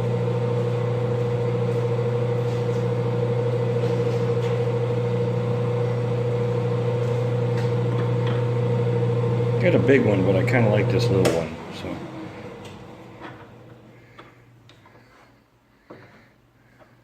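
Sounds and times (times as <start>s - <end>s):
lathe motor humming: 0.0s - 14.5s.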